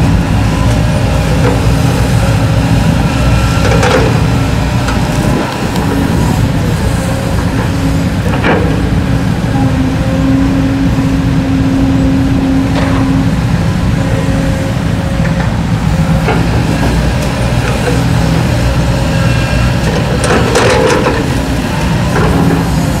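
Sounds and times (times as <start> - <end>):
excavator diesel engine running: 0.0 - 23.0
steady drone: 0.0 - 23.0.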